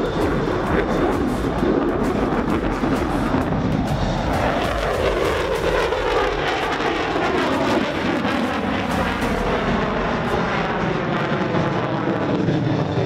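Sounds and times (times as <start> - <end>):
jet passing with loud roar: 0.0 - 13.0.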